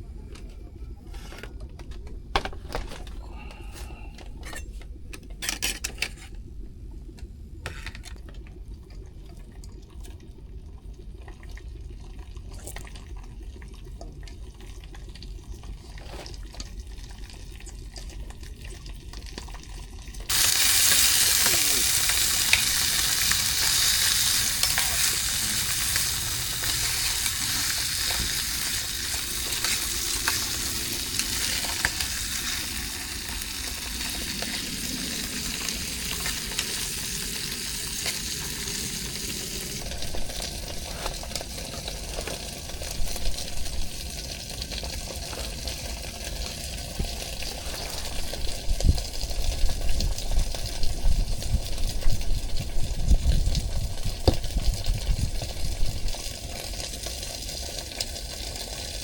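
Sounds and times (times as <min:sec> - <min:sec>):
food frying in hot oil: 0:07.6 - 0:59.0.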